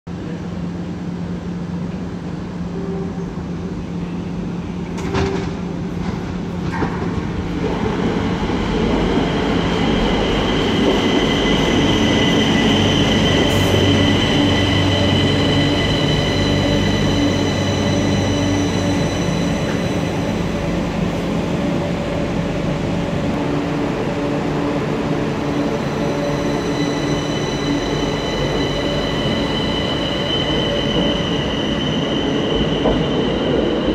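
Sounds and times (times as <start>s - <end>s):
electric train whine and rumble: 0.1s - 33.9s.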